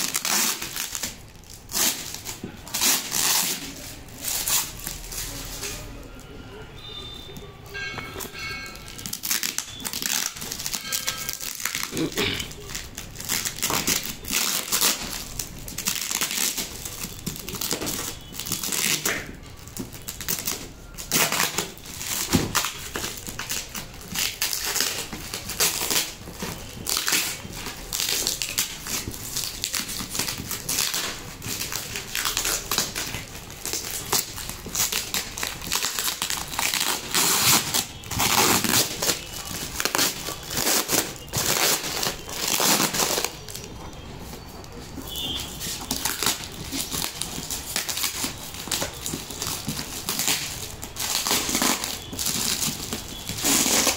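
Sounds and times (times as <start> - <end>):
packing tape being peeled: 0.0 - 6.0, 8.8 - 53.9
plastic crinkling: 0.0 - 7.4, 8.0 - 53.9.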